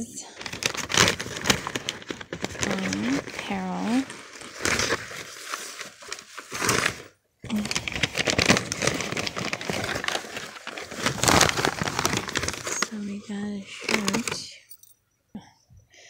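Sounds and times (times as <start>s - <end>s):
packing paper crinkling: 0.0s - 14.6s.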